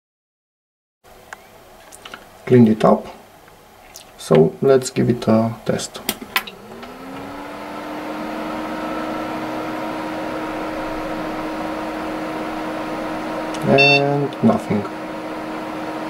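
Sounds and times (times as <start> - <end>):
computer fans whirring: 1.2 - 16.0.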